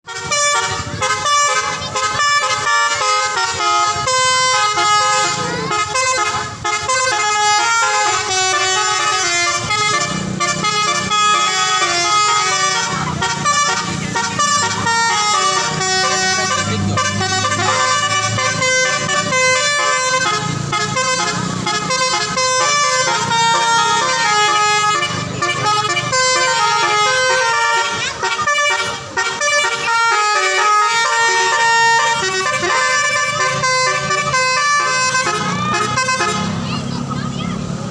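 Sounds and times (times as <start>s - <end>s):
musical bus horn melody: 0.0s - 37.0s.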